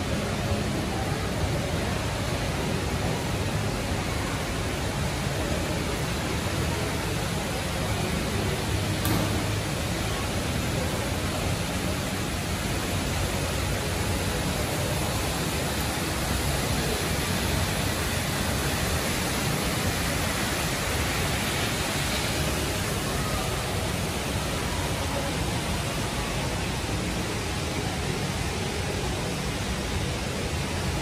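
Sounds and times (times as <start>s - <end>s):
indoor waterfall rushing: 0.0s - 31.0s.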